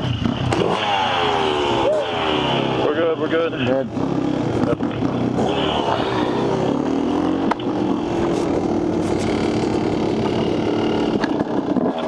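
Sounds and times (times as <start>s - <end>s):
dirt bike engine pulling away: 0.0s - 12.0s.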